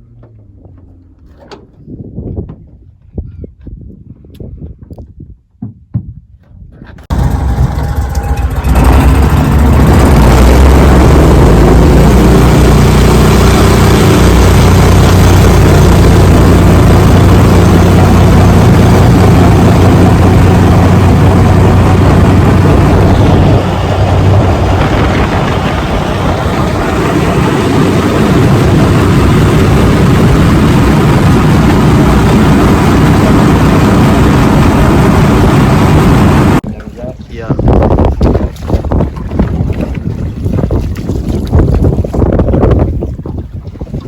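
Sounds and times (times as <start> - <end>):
boat motor running at speed: 7.1 - 44.0.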